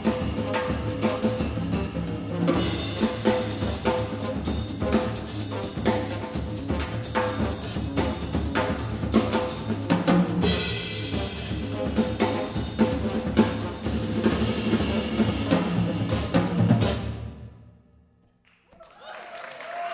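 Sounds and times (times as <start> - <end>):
snare and cymbal strokes: 0.0 - 17.3
jazz band playing: 0.0 - 17.5.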